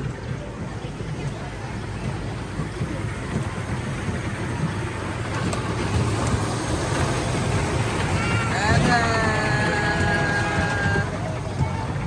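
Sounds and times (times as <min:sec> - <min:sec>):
ride-on toy train rumbling: 0:00.0 - 0:12.0.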